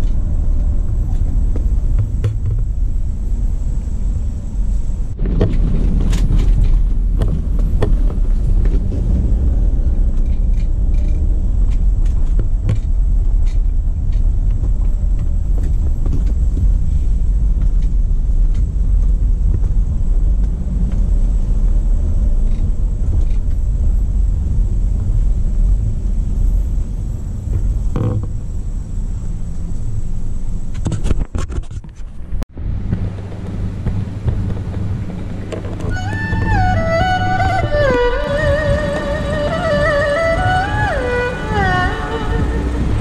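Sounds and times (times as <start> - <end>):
car engine and tyre rumble: 0.0 - 43.0.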